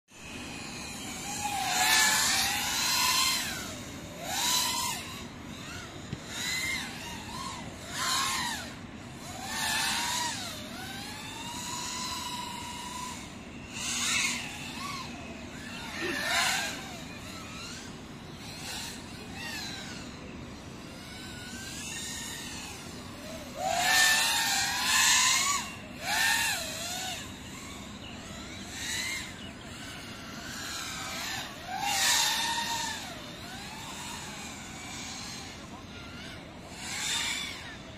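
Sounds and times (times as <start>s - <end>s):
quadcopter motors whining: 0.1s - 37.9s.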